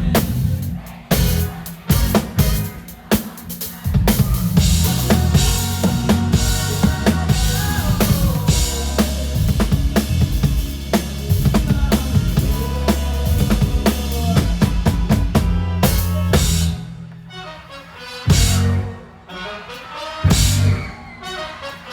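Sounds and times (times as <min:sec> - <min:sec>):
drum kit beat: 0:00.0 - 0:16.9, 0:18.3 - 0:18.8, 0:20.3 - 0:21.0
live band music: 0:00.0 - 0:21.9.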